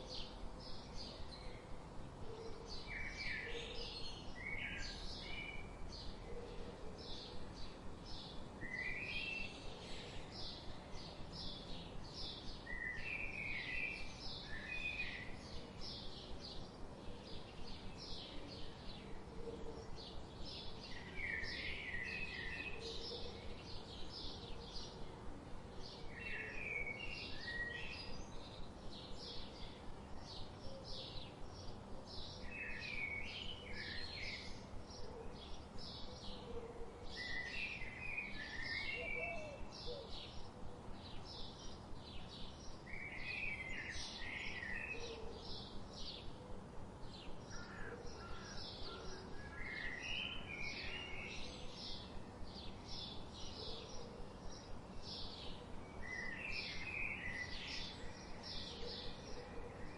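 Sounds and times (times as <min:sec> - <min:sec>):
faint steady hiss: 0:00.0 - 0:59.9.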